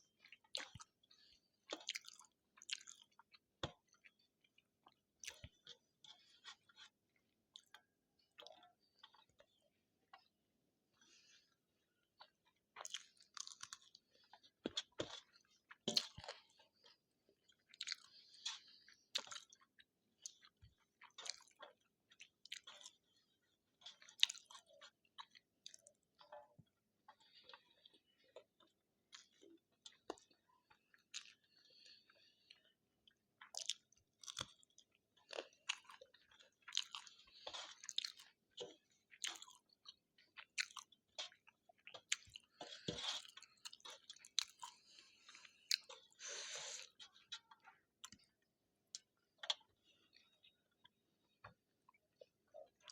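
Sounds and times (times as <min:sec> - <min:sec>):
close chewing with wet mouth clicks: 0:00.1 - 0:10.4, 0:12.1 - 0:52.9.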